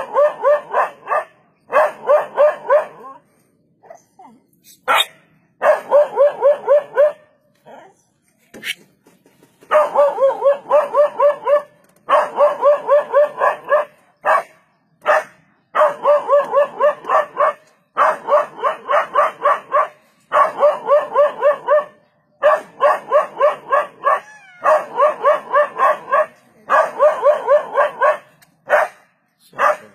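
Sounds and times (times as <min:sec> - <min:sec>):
dog barking: 0:00.0 - 0:03.2, 0:04.9 - 0:07.3, 0:09.7 - 0:29.9.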